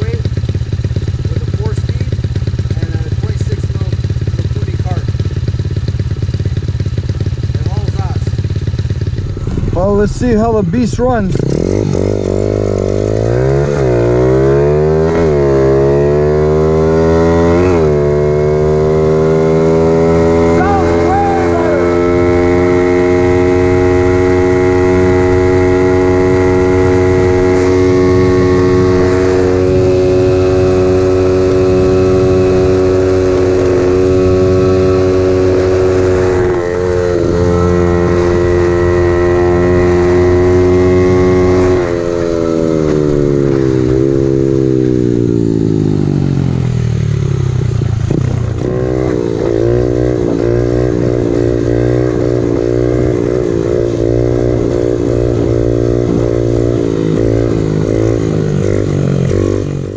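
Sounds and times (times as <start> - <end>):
pit bike engine revving: 0.0 - 59.9.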